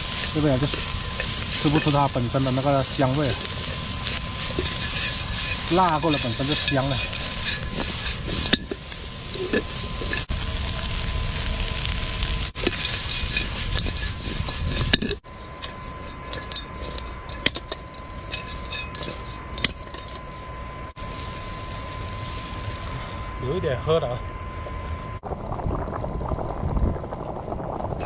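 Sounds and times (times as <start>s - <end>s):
meat sizzling in a pan: 0.0s - 23.1s
crackles and clicks: 0.0s - 28.0s.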